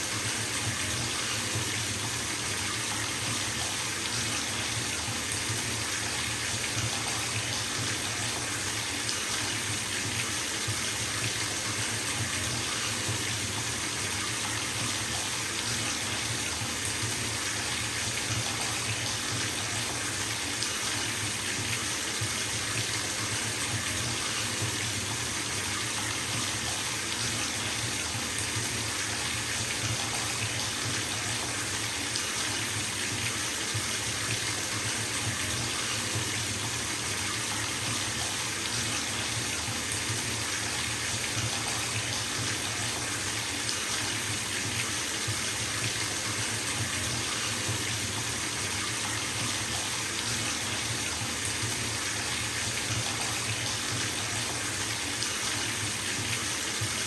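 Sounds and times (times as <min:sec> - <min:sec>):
water gushing into bathtub: 0:00.0 - 0:57.0.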